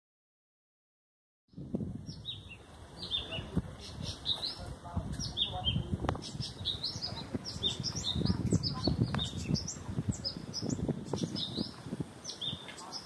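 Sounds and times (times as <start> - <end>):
small birds chirping: 1.5 - 13.0.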